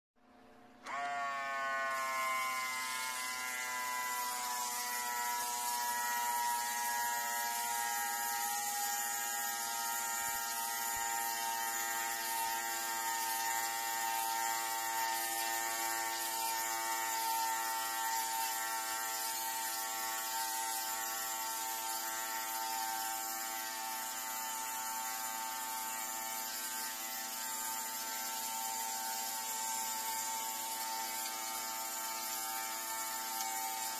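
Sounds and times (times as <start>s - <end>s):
spray gun motor whining: 0.8s - 33.9s.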